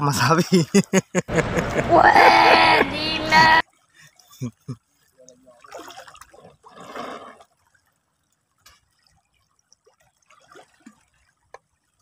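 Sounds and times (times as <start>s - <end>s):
seawater splashing and sloshing: 1.3s - 12.0s.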